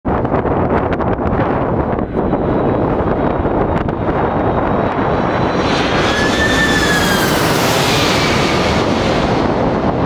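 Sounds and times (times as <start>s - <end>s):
wind noise on microphone: 0.0s - 10.0s
jet airliner engine whine: 0.1s - 10.0s.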